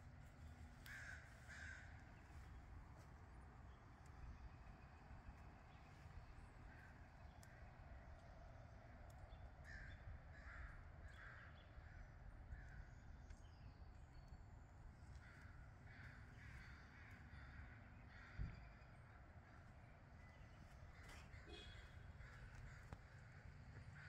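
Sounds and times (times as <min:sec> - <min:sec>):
faint repeated bird calls: 0:00.0 - 0:24.0.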